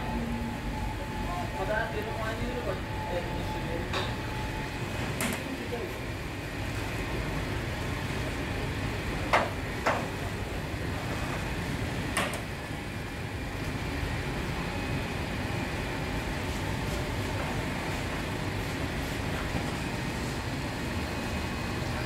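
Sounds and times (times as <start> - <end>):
bakery machinery hum: 0.0 - 22.0.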